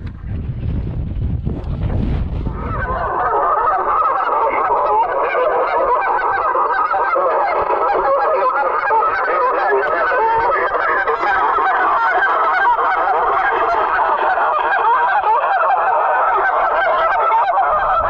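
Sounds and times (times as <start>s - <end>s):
flock of geese honking: 2.5s - 18.0s.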